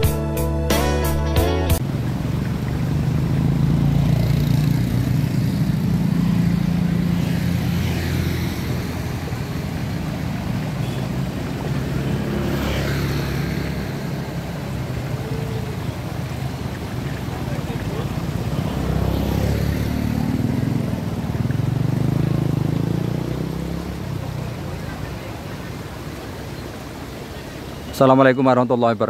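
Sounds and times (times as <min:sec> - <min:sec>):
vehicle engine humming: 0:00.0 - 0:27.6.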